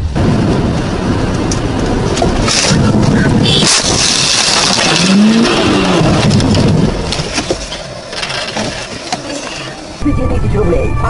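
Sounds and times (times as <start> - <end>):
engine and road noise: 0.0 - 11.0.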